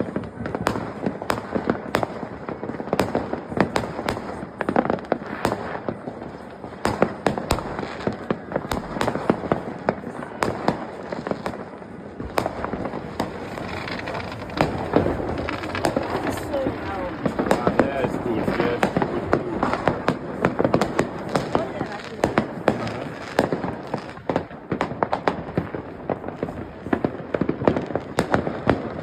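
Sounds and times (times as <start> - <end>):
distant fireworks crackling and rumbling: 0.0 - 29.0
firecrackers banging: 0.0 - 29.0.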